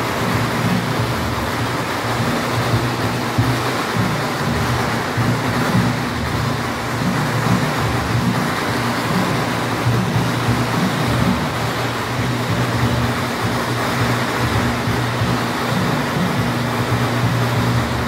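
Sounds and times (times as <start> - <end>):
loud procession music: 0.0 - 18.0
steady low drone: 0.0 - 18.0.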